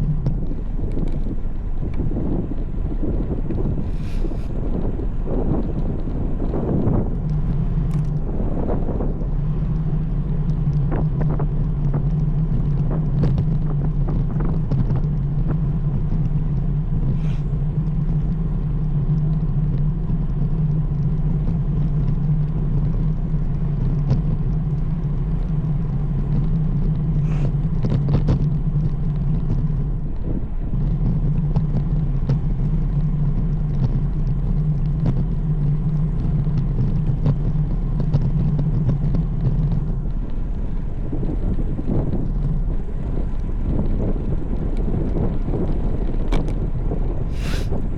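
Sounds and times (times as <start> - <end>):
tyres rolling on pavement: 0.0 - 47.9
wind on microphone: 0.0 - 47.9.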